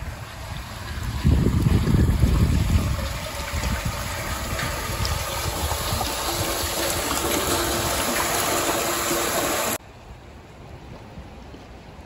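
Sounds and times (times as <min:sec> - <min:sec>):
rainwater pouring into storm drain: 0:00.0 - 0:09.8.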